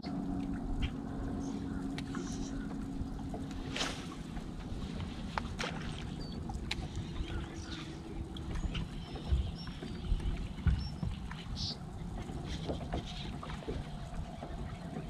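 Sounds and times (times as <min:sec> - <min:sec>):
rumble of wind and water: 0:00.0 - 0:15.0.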